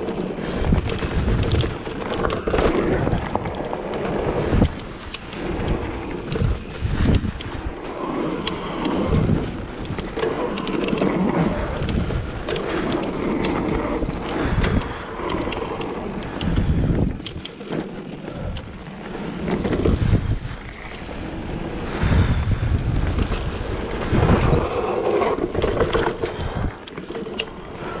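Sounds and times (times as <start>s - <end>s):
bike rattles and knocks: 0.0s - 21.2s, 22.0s - 28.0s
wind buffeting microphone: 0.0s - 28.0s.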